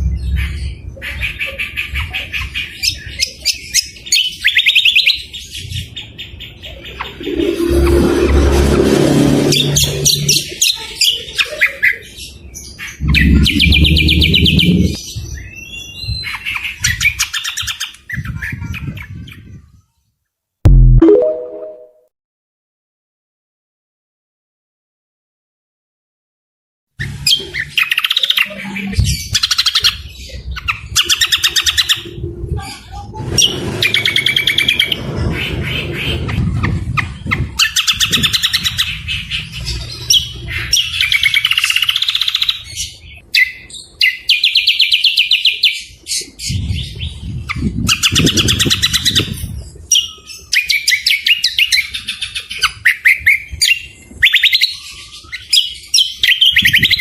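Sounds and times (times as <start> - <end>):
songbirds trilling and whistling: 0.0 - 8.0, 9.5 - 19.6, 27.0 - 57.0.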